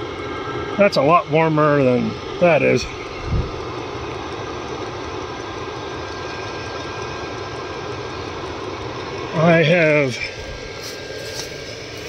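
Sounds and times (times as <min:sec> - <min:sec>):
air heater rushing noise: 0:00.0 - 0:12.0
faint steady whine: 0:00.0 - 0:12.0.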